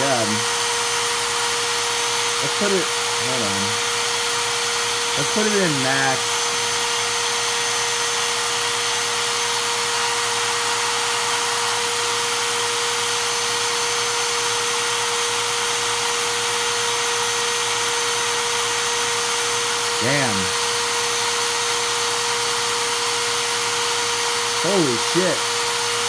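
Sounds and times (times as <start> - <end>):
drill motor whining: 0.0 - 26.0.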